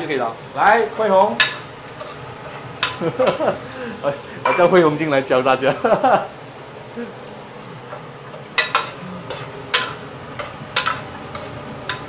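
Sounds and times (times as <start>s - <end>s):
fish frying in oil: 0.0s - 12.0s.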